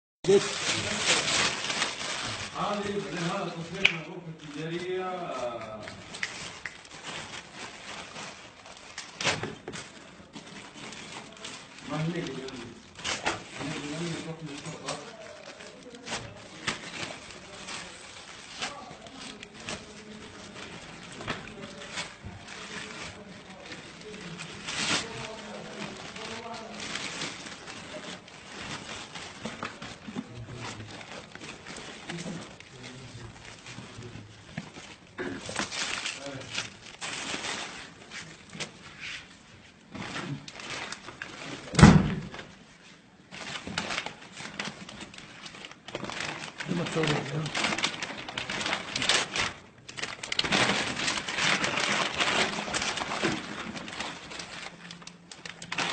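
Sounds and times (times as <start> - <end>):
plastic packets rustling: 0.2 - 55.9.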